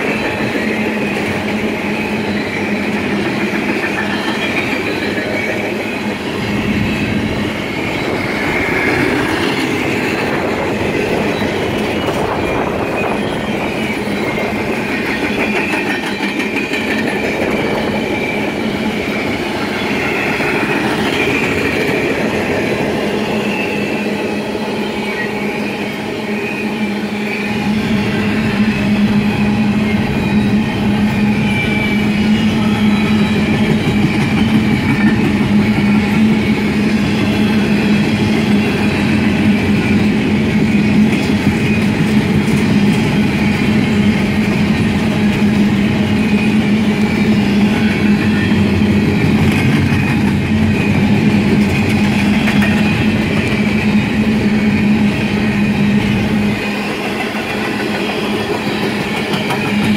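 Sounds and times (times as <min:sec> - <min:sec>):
rail cars rolling past: 0:00.0 - 0:59.9.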